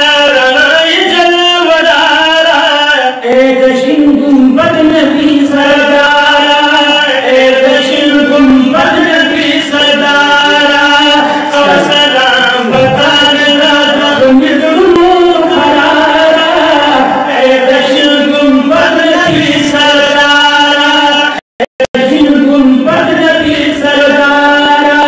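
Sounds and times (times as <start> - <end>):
men chanting through microphones: 0.0 - 25.0.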